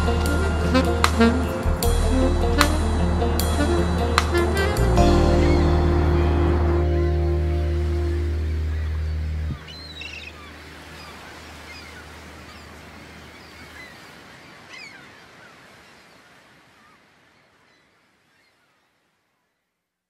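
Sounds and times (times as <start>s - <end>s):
birds chirping: 0.0s - 16.1s
steady outdoor hiss: 0.0s - 19.6s.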